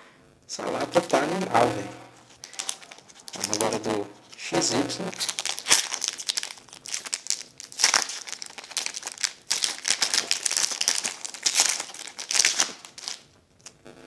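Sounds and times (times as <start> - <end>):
foil wrapper crinkling: 0.7 - 1.6, 2.2 - 13.8.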